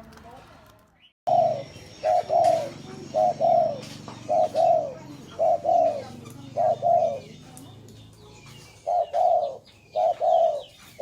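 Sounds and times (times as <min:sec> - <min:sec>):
dove cooing: 0:01.3 - 0:07.7, 0:08.5 - 0:11.0.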